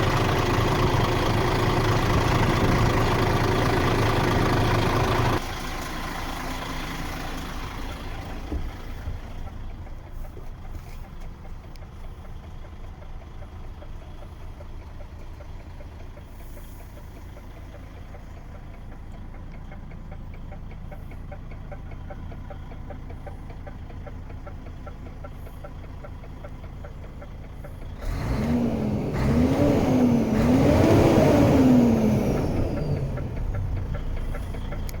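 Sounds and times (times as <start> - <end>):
truck diesel engine idling and revving: 0.0 - 35.0.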